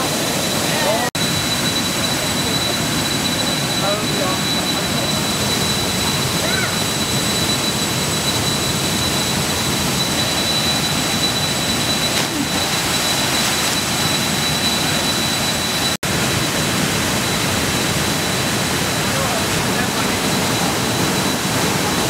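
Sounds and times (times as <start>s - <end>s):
river rapids and waterfall rushing: 0.0s - 22.0s.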